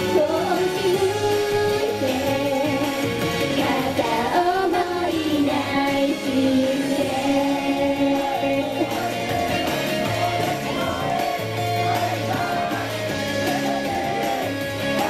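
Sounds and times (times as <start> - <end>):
backing track through speakers: 0.0 - 15.0
young women singing pop song: 0.0 - 15.0.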